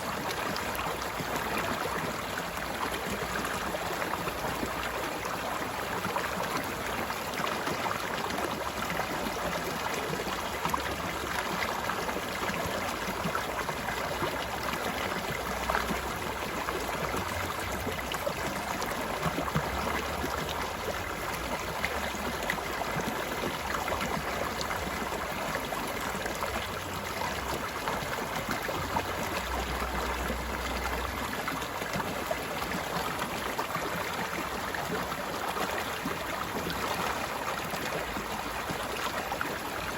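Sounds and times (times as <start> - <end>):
stream flowing with gurgles: 0.0 - 39.9.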